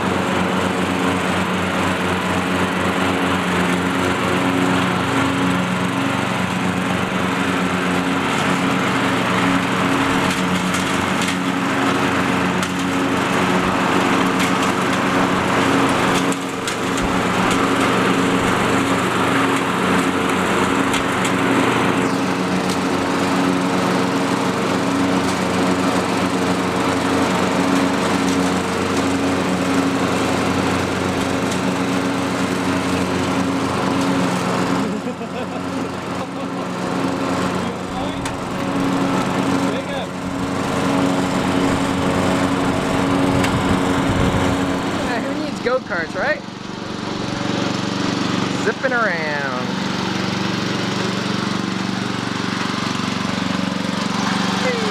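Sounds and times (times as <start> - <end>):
riding lawn mower engine running: 0.0 - 54.9.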